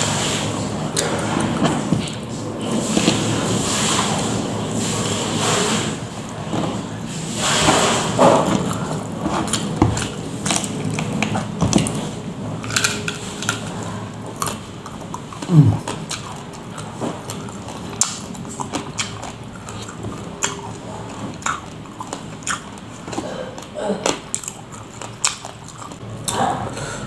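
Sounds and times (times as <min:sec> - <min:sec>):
man chewing food: 0:00.0 - 0:27.0.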